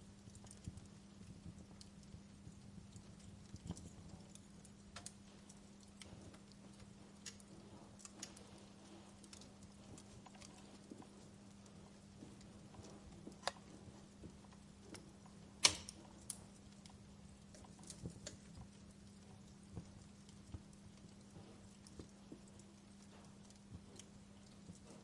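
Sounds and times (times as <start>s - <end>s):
faint low hum: 0.0s - 25.0s
wood fire crackling: 0.0s - 25.0s.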